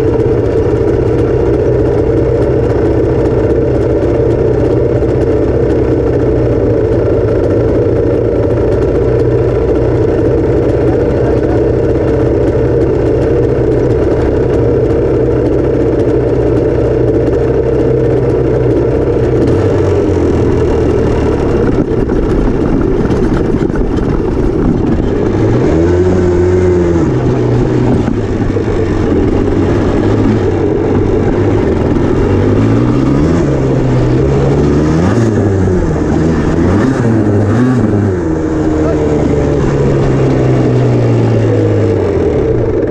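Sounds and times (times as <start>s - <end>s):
two-stroke engine idling and revving: 0.0s - 42.9s.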